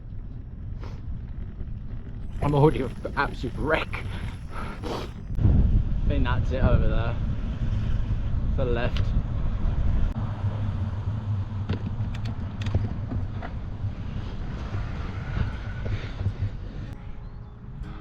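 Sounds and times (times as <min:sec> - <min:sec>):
bicycle tyre noise: 0:00.0 - 0:18.0
wind on microphone: 0:00.0 - 0:18.0.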